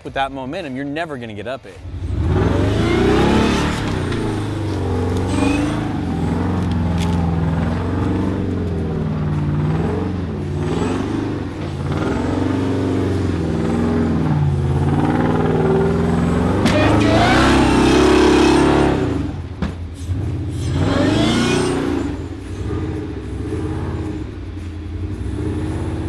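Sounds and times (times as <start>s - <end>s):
jeep engine revving: 1.7s - 26.0s.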